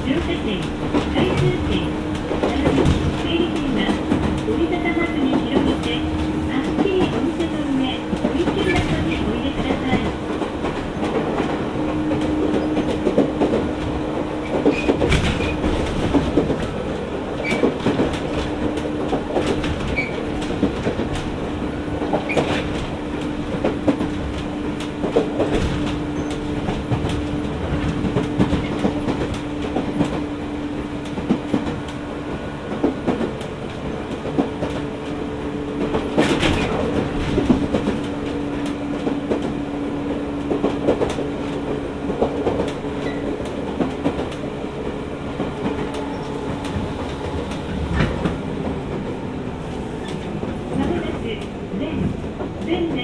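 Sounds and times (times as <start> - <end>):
electric train hum: 0.0 - 53.0.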